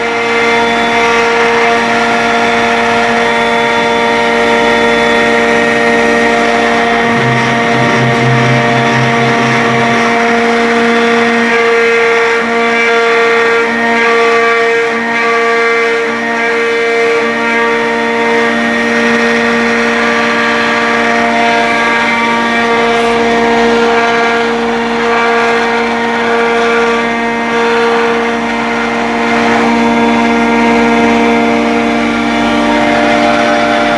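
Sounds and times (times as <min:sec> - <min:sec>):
router motors whining: 0:00.0 - 0:33.9
rushing cutting noise: 0:00.0 - 0:33.9.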